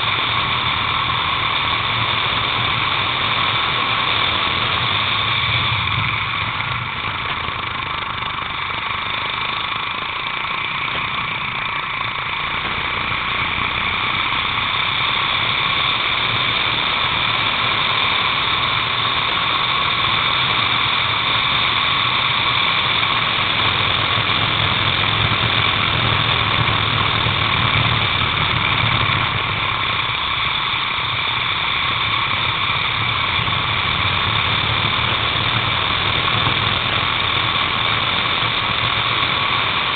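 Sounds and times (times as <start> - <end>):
racing kart engine: 0.0 - 39.9
steady high whine: 0.0 - 39.9.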